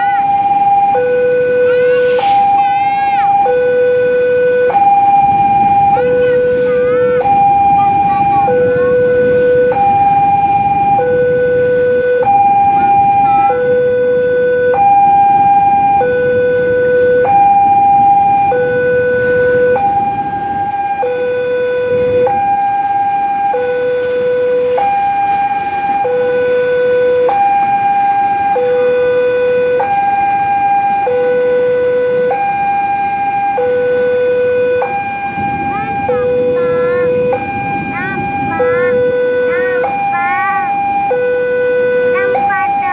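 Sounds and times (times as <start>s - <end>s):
two-tone crossing alarm: 0.0s - 42.9s
freight train rumbling past: 1.4s - 30.4s, 33.1s - 42.9s.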